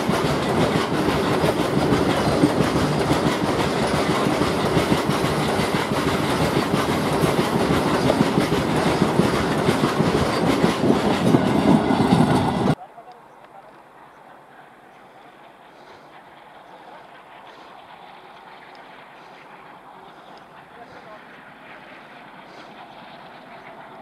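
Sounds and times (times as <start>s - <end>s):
freight wagons rumbling past: 0.0s - 12.8s, 13.8s - 24.0s
wheels clickety-clack on rail joints: 0.0s - 24.0s.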